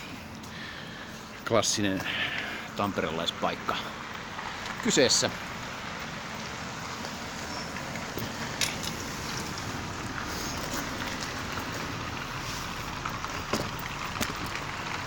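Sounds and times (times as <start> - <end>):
distant traffic: 0.0 - 15.0.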